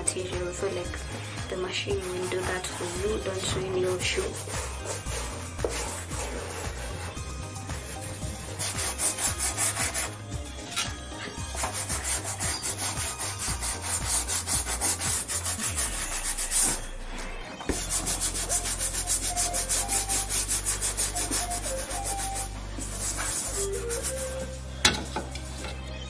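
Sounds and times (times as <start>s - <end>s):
toothbrush scrubbing a sneaker: 1.5s - 16.9s, 17.7s - 24.6s.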